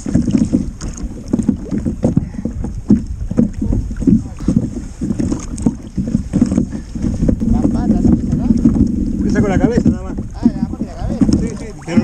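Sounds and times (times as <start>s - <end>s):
water slapping against hull: 0.0s - 12.0s
wind rumbling on microphone: 0.0s - 12.0s.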